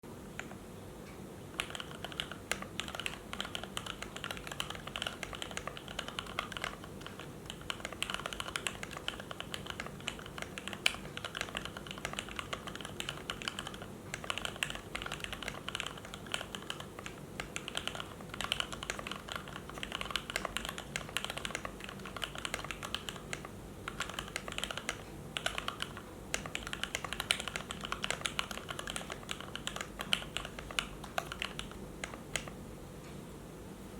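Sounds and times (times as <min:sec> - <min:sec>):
mechanical keyboard typing: 0:01.6 - 0:32.6.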